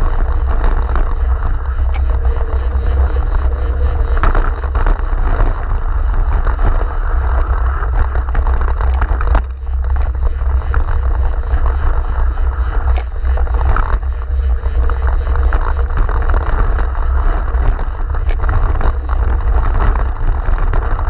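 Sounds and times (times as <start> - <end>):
low rumble: 0.0 - 21.0
wind buffeting microphone: 0.0 - 21.0.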